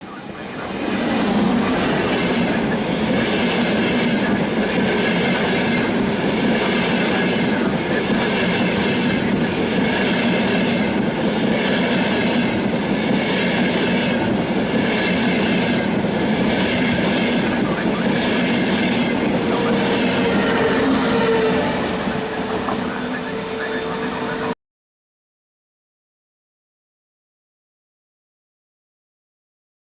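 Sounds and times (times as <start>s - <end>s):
train wheels rushing on rails: 0.0s - 24.5s.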